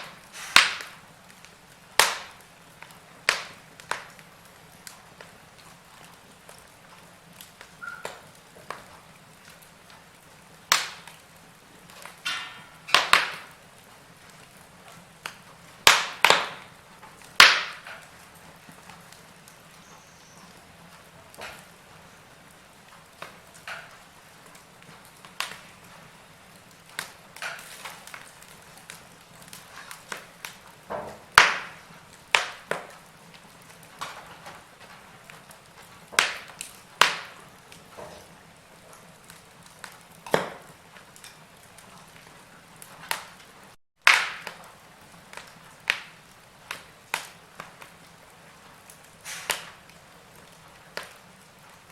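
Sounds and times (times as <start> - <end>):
faint steady hiss: 0.0 - 51.9
wood fire crackling and popping: 0.0 - 51.9.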